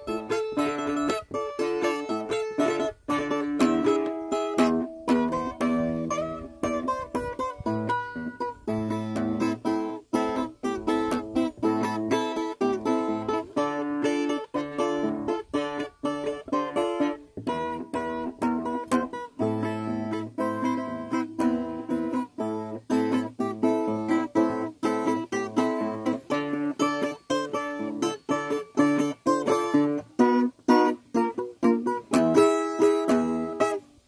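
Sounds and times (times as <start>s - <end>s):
acoustic guitar music: 0.0s - 34.0s.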